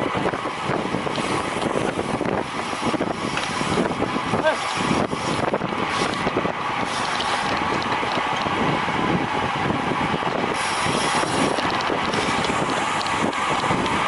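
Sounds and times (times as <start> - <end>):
bicycle drivetrain whir: 0.0 - 14.0
wind on microphone: 0.0 - 14.0.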